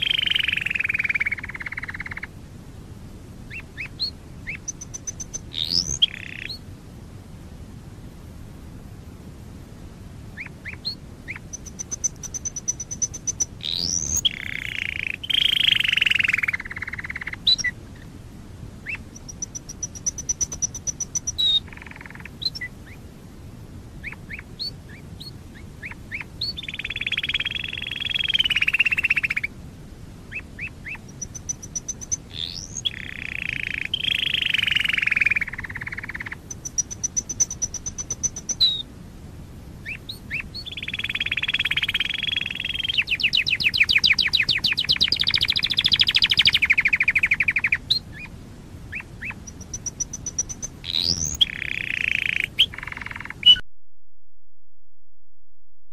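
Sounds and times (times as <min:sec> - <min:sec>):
canary singing: 0:00.0 - 0:02.3, 0:03.5 - 0:06.6, 0:10.4 - 0:18.1, 0:18.8 - 0:23.1, 0:24.0 - 0:29.5, 0:30.3 - 0:38.9, 0:39.8 - 0:53.6.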